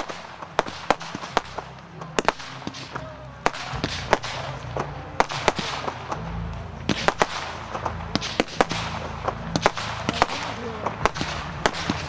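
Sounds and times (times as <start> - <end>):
continuous noisy haze: 0.0 - 12.0
fireworks bangs: 0.0 - 12.0.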